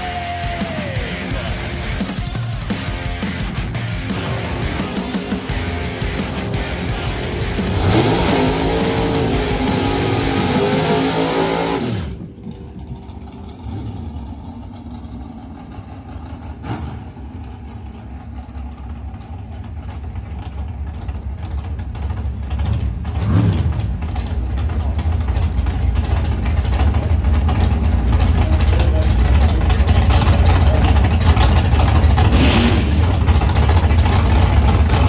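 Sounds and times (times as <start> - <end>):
race car engine running: 0.0 - 35.0.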